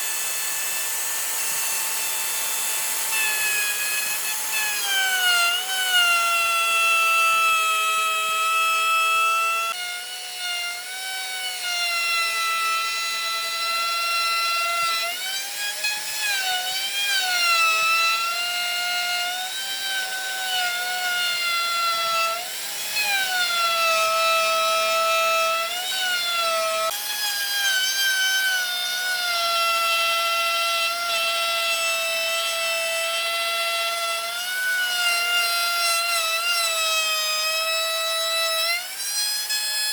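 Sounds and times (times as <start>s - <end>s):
power tool whining on wood: 0.0s - 39.9s.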